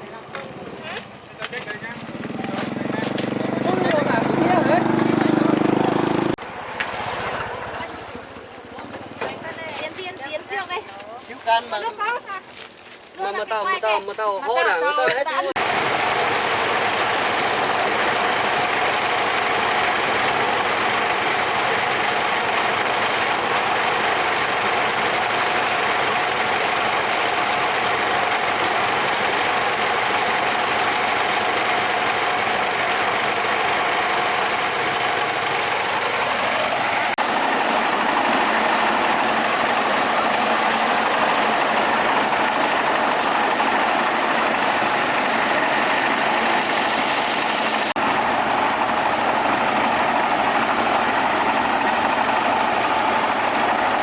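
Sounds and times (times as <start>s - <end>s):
motor running: 0.1s - 10.8s, 15.1s - 54.0s.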